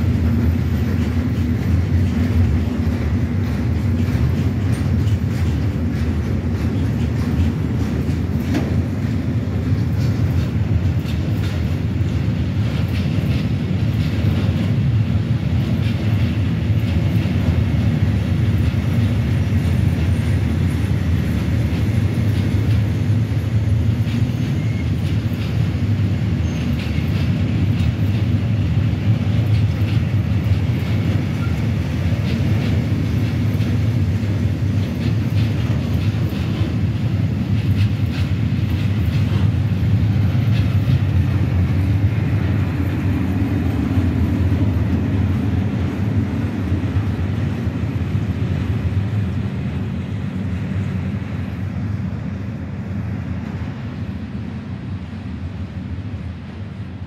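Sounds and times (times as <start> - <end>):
freight wagons rumbling on rails: 0.0 - 57.0.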